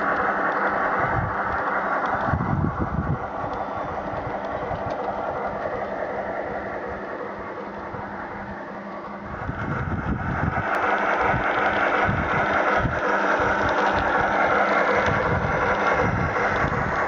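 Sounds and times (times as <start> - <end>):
model train wheels clattering on rails: 0.0 - 17.0.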